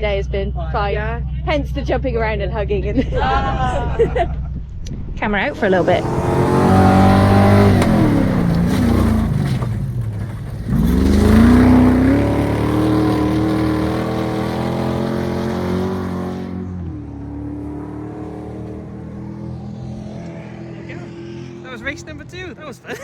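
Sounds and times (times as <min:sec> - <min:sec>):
race car engine revving: 0:00.0 - 0:22.4.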